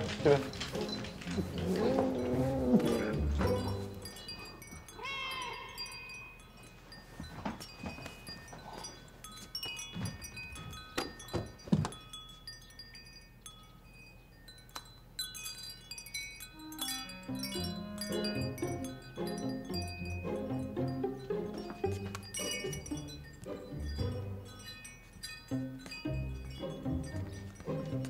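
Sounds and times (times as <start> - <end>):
metal wind chime tinkling: 0.0 - 28.0.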